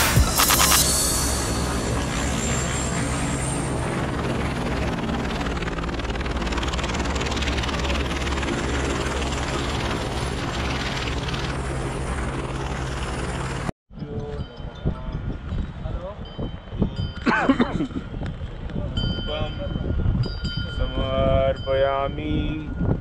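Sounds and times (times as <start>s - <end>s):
helicopter rotor and turbine noise: 0.0s - 21.0s.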